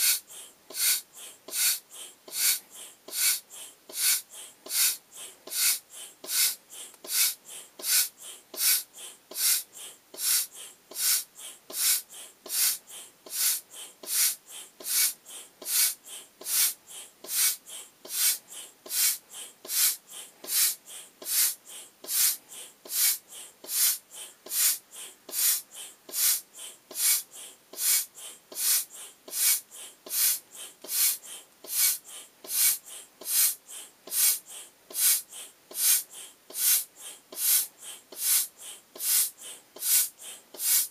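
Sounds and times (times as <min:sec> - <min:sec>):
foot pump hissing puffs: 0:00.0 - 0:40.9.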